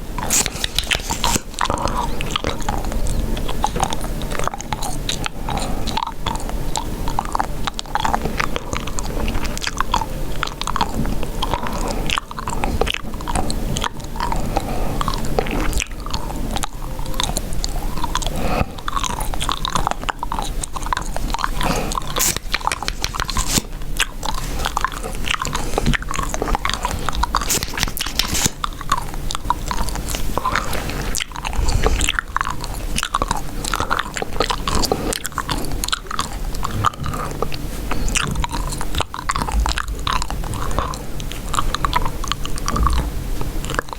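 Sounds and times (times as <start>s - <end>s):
chewing gum mouth clicks: 0.0s - 43.9s.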